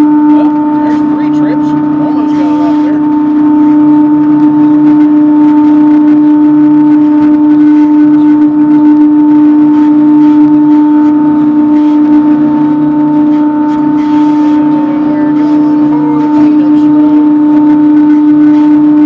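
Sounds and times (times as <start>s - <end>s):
low hum: 0.0s - 19.0s
sawmill debarker droning: 0.0s - 19.0s.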